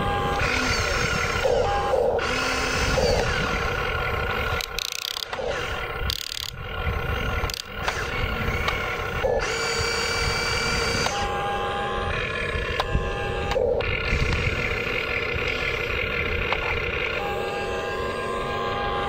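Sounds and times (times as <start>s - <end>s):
electric motors whining and grinding: 0.0s - 19.0s.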